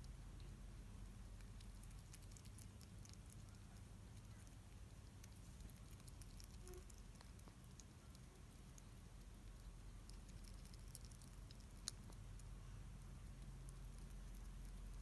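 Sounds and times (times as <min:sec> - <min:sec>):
hedgehog crunching kibble: 0:00.0 - 0:15.0
low steady hum: 0:00.0 - 0:15.0.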